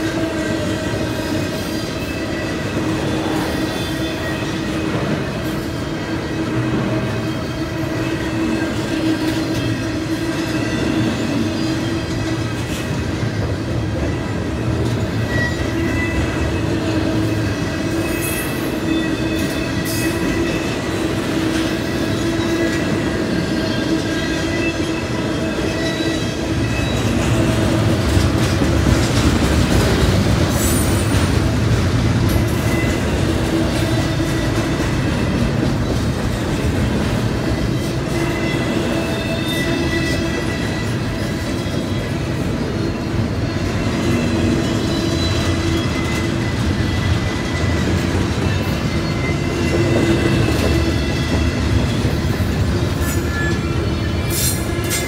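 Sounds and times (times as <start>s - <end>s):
train wheels rumbling on rail: 0.0s - 55.0s
wheel squeal: 1.3s - 12.5s, 14.0s - 27.8s, 32.3s - 36.0s, 37.4s - 55.0s.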